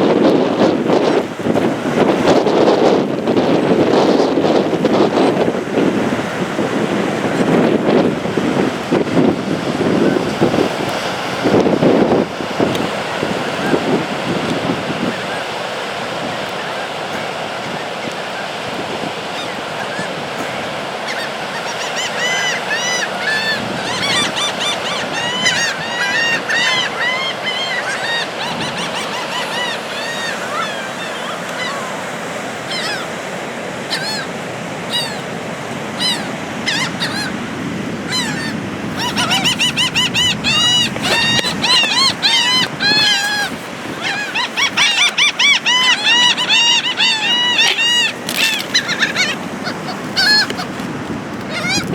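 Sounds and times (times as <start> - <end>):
strong wind: 0.0 - 51.9
surf: 0.0 - 51.9
gulls calling: 0.2 - 51.9.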